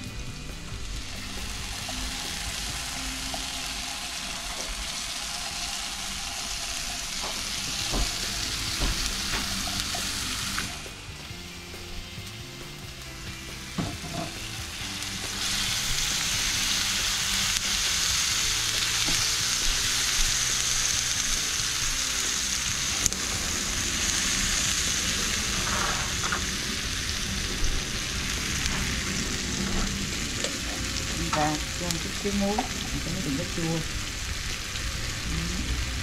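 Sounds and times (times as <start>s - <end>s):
tomato sizzling in oil: 0.0s - 36.0s.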